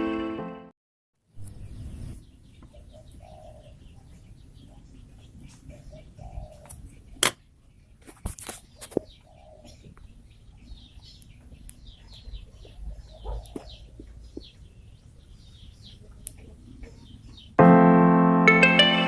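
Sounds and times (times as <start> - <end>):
small birds chirping: 1.3 - 17.6.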